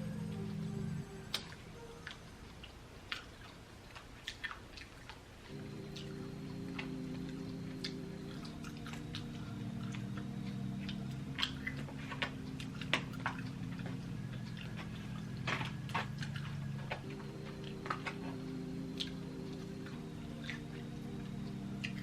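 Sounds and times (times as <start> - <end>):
low hum: 0.0 - 3.5, 5.5 - 22.0
person chewing food: 1.3 - 22.0.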